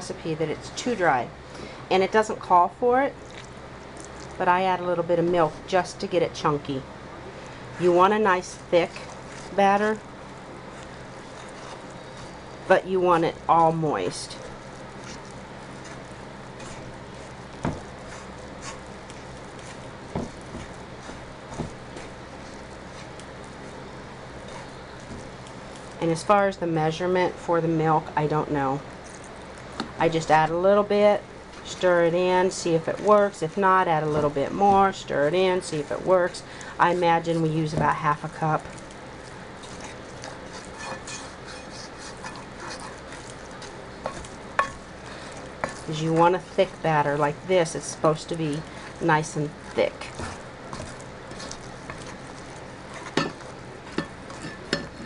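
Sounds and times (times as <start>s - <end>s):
spoon stirring thick batter: 7.4s - 55.0s.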